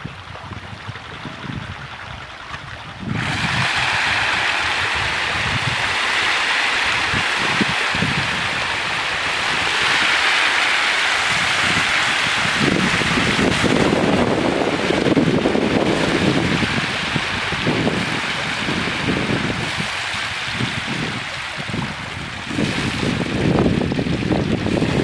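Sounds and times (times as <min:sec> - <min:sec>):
fish splashing at water surface: 0:02.2 - 0:25.0.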